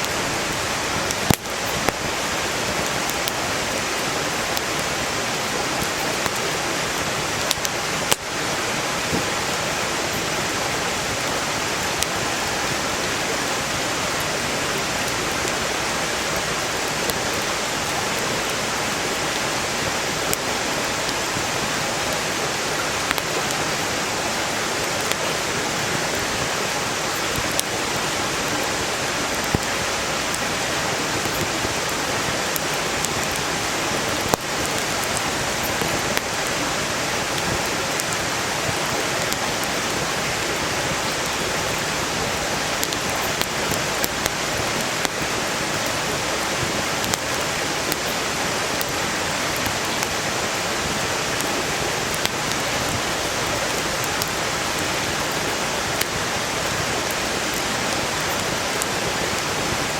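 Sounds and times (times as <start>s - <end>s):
campfire crackling: 0.0s - 59.9s
stream flowing: 0.0s - 59.9s.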